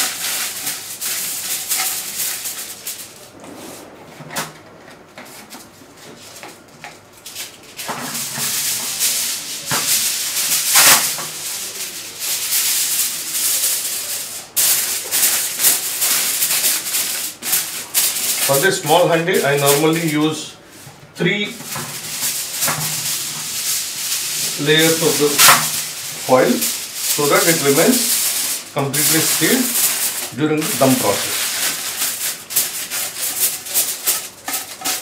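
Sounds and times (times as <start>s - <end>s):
aluminium foil crinkling: 0.0s - 20.6s, 21.2s - 35.0s.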